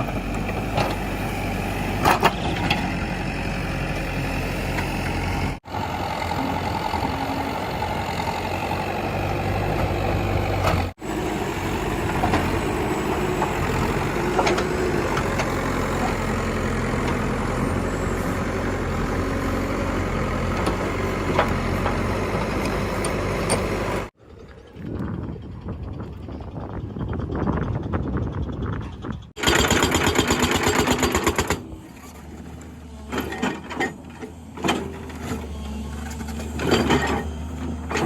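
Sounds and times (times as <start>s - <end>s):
diesel engine running steadily: 0.0s - 38.0s.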